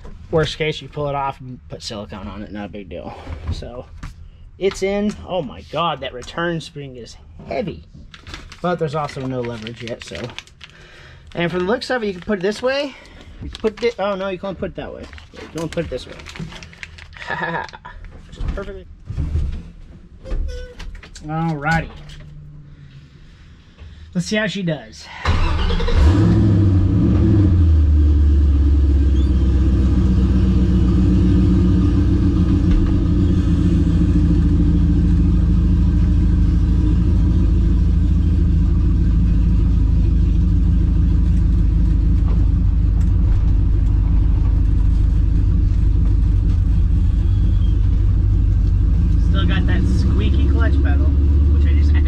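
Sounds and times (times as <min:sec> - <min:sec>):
car engine cranking and idling: 0:04.6 - 0:17.2, 0:21.0 - 0:24.1, 0:25.2 - 0:52.0.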